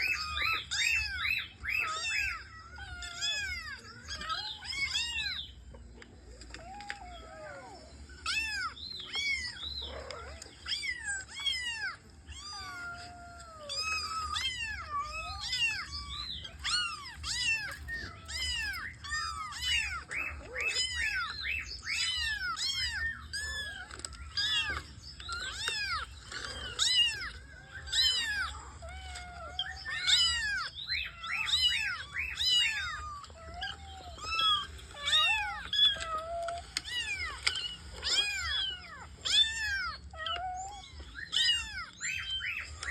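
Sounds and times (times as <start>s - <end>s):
kittens mewing: 0.0s - 42.9s.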